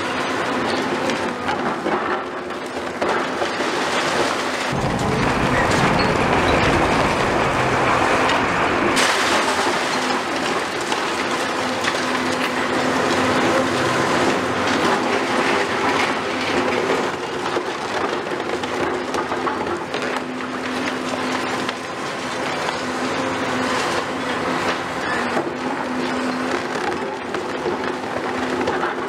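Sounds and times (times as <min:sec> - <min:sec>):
concrete crunching and clattering: 0:00.0 - 0:29.0
excavator engine droning: 0:04.0 - 0:18.1, 0:18.8 - 0:29.0.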